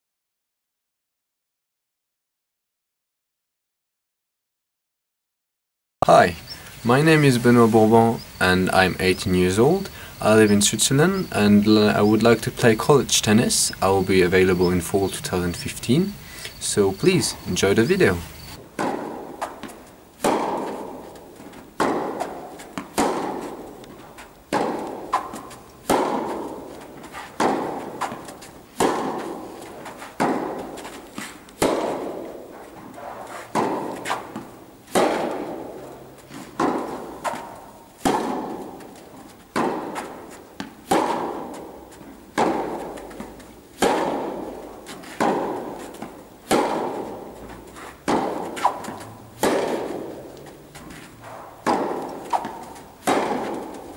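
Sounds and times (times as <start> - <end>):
tennis balls bouncing: 6.0 - 53.9
tennis balls hit by rackets: 6.2 - 53.9.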